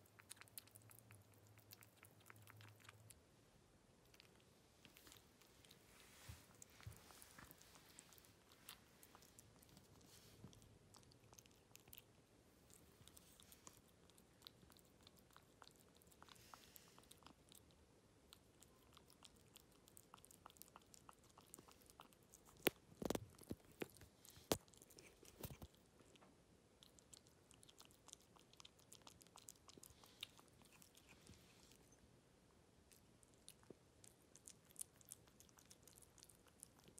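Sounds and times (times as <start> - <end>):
kitten licking and chewing: 0.0 - 36.9.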